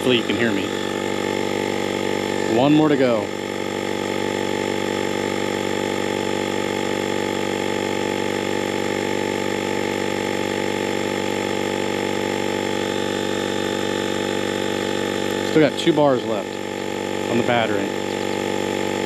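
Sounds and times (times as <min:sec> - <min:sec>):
small air compressor running: 0:00.0 - 0:19.0.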